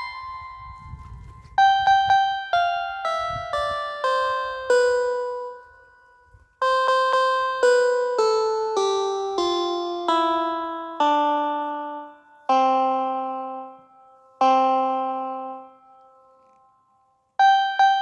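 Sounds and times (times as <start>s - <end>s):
plucked string instrument music: 0.0s - 16.8s, 17.4s - 18.0s.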